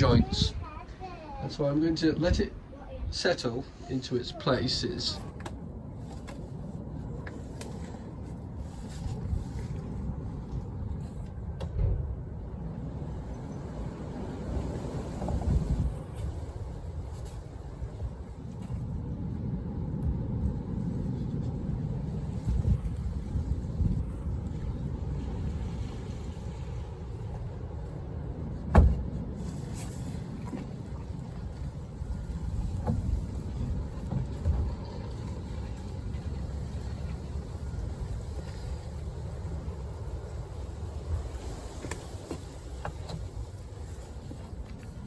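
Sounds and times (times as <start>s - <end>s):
wind buffeting microphone: 0.0s - 3.4s, 4.2s - 45.0s
low outdoor rumble: 0.0s - 45.0s.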